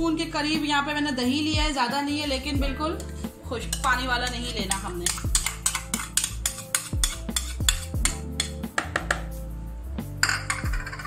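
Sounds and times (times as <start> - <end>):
background music with bass and drums: 0.0 - 11.0.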